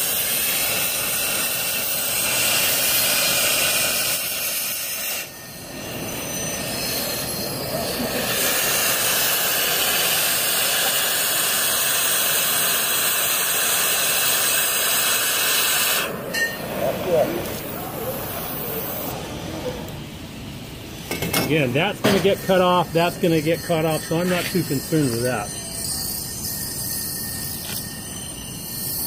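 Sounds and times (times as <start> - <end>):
cutting torch hissing roar: 0.0 - 25.6.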